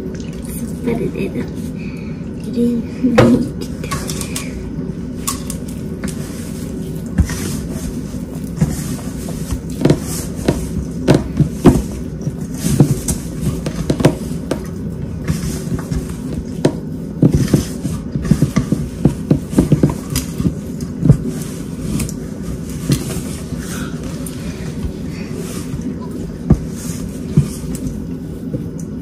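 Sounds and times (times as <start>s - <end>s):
hand kneading wet dough: 0.0s - 29.0s.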